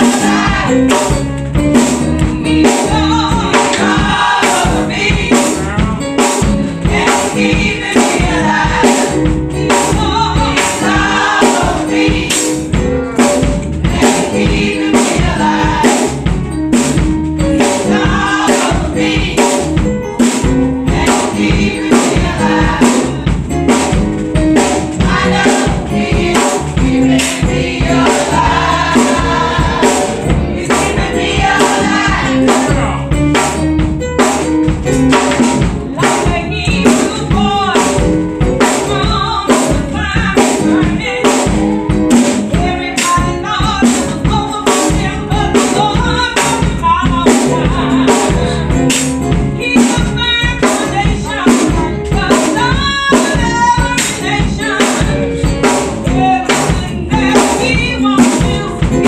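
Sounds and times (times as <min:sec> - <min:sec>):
choir singing gospel: 0:00.0 - 0:33.3, 0:35.4 - 0:49.1, 0:49.8 - 0:59.0
drum kit steady beat: 0:00.0 - 0:59.0.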